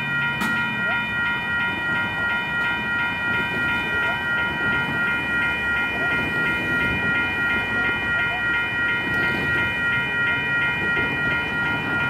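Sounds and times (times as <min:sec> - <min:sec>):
railroad crossing bells ringing: 0:00.0 - 0:12.0.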